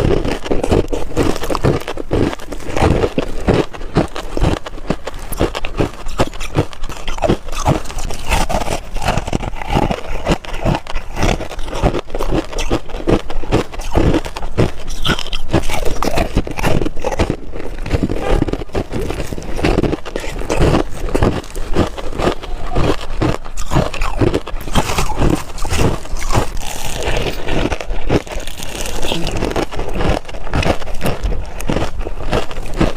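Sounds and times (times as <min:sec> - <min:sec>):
crushed ice being chewed: 0:00.0 - 0:32.9.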